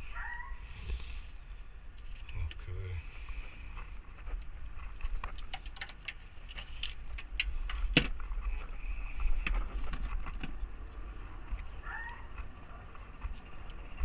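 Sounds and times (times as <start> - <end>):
steady low rumble: 0.0 - 5.4, 6.2 - 14.0.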